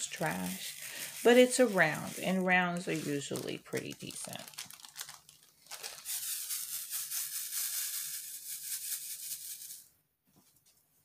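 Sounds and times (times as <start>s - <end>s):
tiny plastic pieces rattling: 0.0s - 9.9s.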